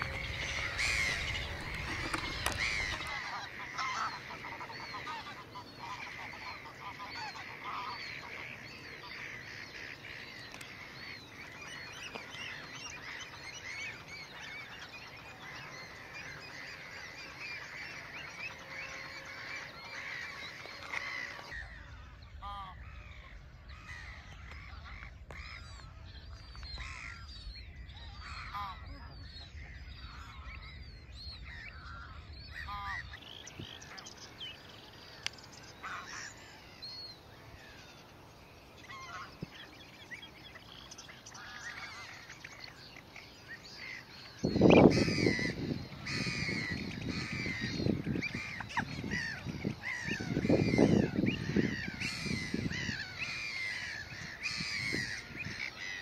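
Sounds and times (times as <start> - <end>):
waterfowl calls: 0.0 - 27.3, 28.1 - 30.7, 31.4 - 56.0
birds chirping and singing: 0.0 - 56.0.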